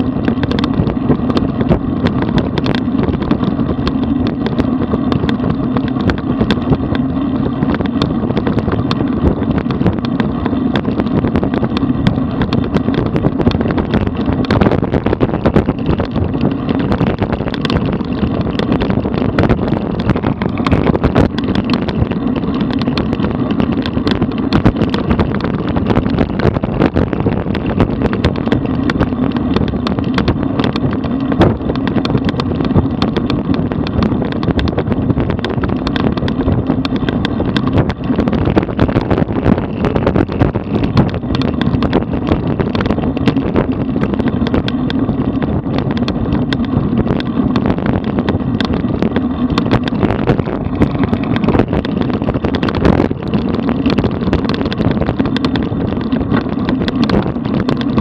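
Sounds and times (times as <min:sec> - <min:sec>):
bike rattles and clicks: 0:00.0 - 0:58.0
tyres rumbling on road: 0:00.0 - 0:58.0
wind buffeting microphone: 0:00.0 - 0:58.0.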